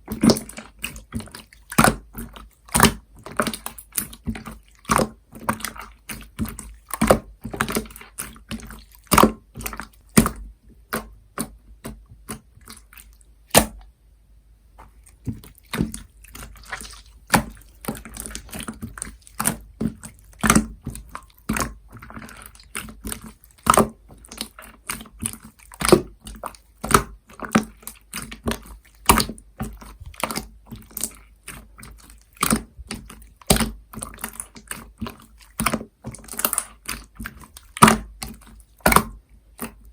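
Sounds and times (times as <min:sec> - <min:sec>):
slime squished by hand: 0:00.0 - 0:13.9, 0:14.8 - 0:39.9.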